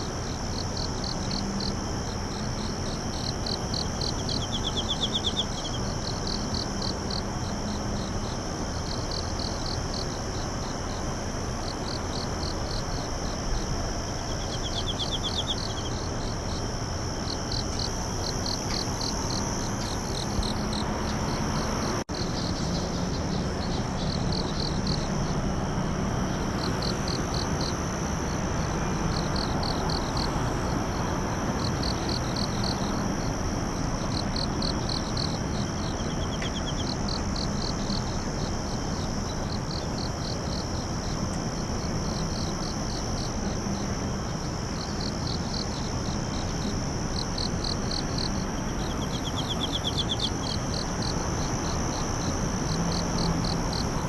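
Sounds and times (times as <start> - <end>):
crickets chirping: 0.0 - 54.0
high-pitched insect trill: 0.0 - 54.0.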